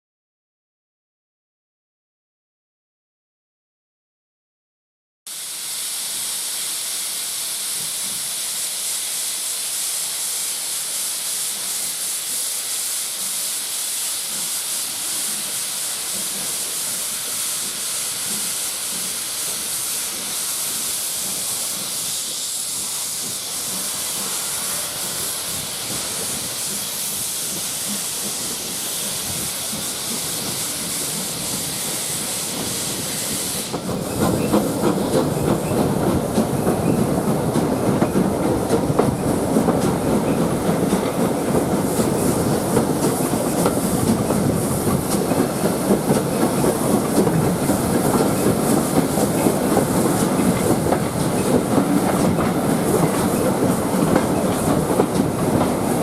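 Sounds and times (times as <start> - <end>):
steam hissing: 5.3 - 56.0
train rumbling on rails: 5.7 - 56.0.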